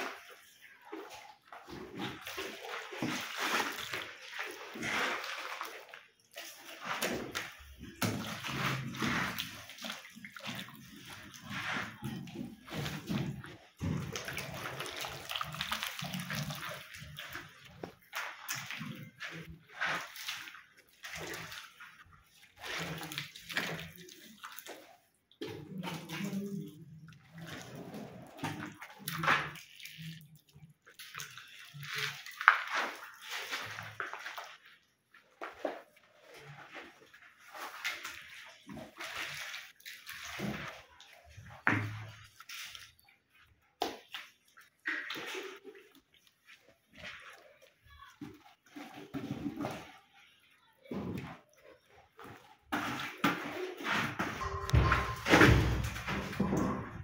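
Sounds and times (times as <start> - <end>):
wet plaster sloshing and slapping: 0.0 - 57.0.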